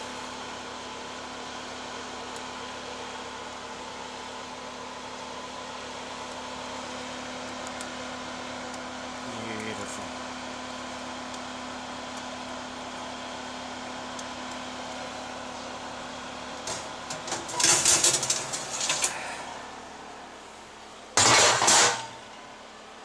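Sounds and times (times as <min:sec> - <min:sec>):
oven fan humming: 0:00.0 - 0:23.0.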